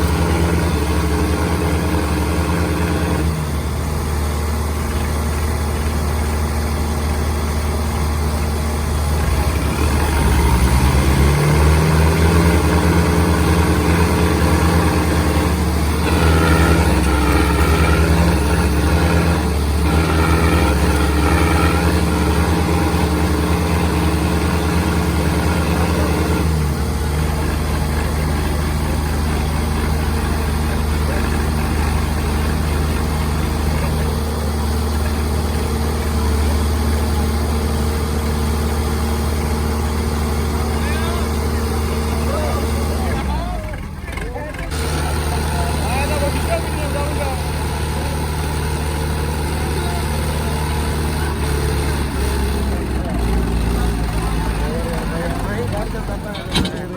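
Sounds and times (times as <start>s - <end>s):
tractor diesel engines revving: 0.0s - 56.9s.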